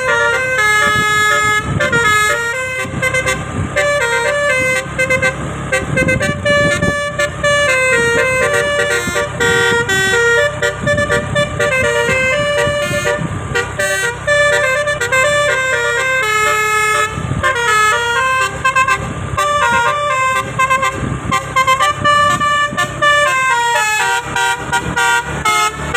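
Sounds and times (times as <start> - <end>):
bus air horn playing a tune: 0.0 - 25.9.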